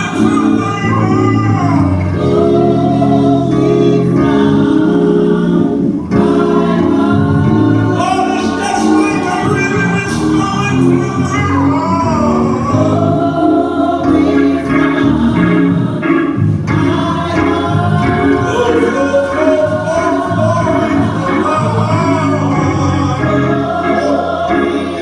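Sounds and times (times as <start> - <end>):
gospel choir singing: 0.0 - 25.0
instrumental backing: 0.0 - 25.0.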